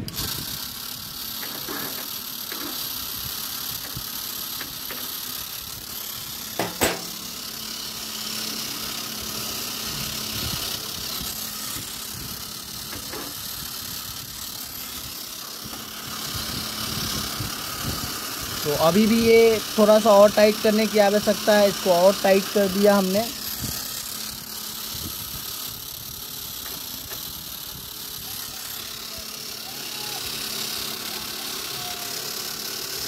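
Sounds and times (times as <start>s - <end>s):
electric motor running: 0.0s - 33.0s.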